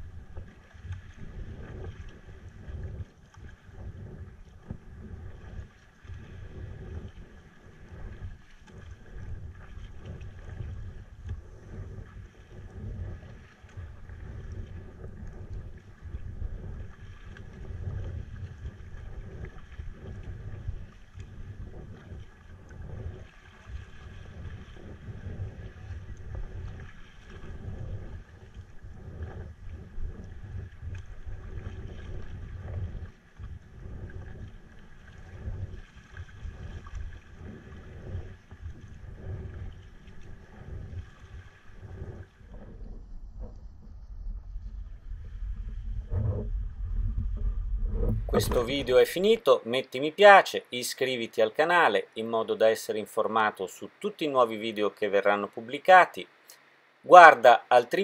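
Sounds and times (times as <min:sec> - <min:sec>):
wind buffeting microphone: 0:00.0 - 0:49.4
water splashing around hull: 0:00.0 - 0:58.0.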